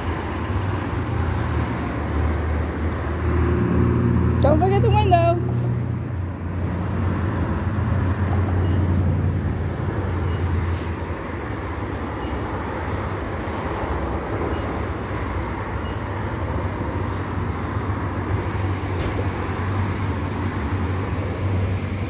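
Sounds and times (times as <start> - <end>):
road noise hiss: 0.0 - 22.0.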